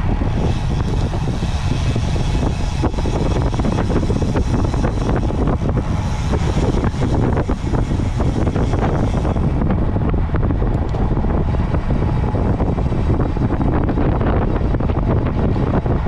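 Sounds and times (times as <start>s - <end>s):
road rumble and rattle: 0.0s - 16.0s
wind buffeting microphone: 0.0s - 16.0s.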